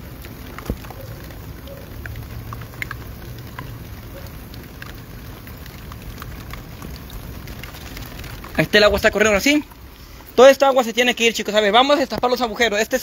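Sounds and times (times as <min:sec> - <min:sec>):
drops splashing: 0:00.0 - 0:13.0
heavy rain: 0:00.0 - 0:13.0
rainwater running through drain: 0:00.0 - 0:13.0.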